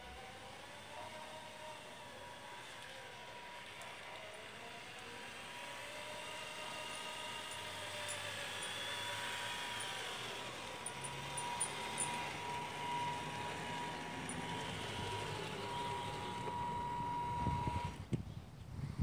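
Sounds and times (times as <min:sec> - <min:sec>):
toy truck motor whining: 0:00.0 - 0:18.1.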